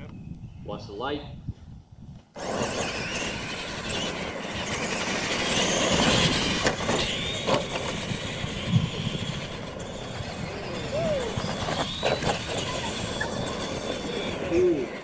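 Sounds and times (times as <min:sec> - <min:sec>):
electric toy truck motors whining: 0:02.4 - 0:15.0.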